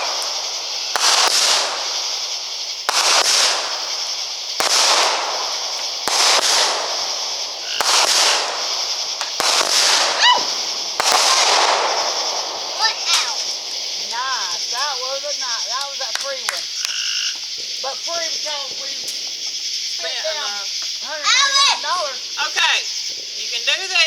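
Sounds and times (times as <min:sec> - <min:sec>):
fireworks hissing: 0:00.0 - 0:24.0
fireworks reports: 0:00.0 - 0:24.0.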